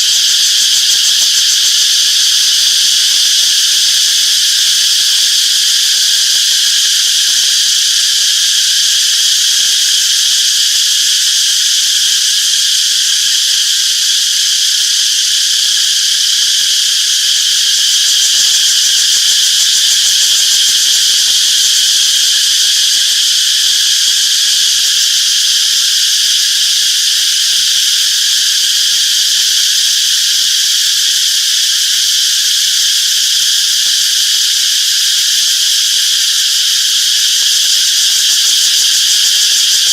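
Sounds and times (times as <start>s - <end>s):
cicadas shrilling: 0.0s - 39.9s.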